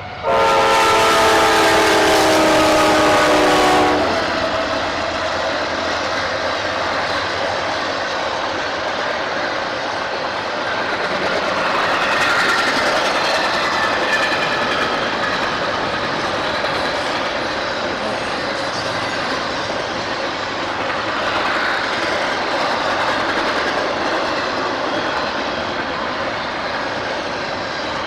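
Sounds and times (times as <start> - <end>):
train cars rolling on rails: 0.0 - 28.0.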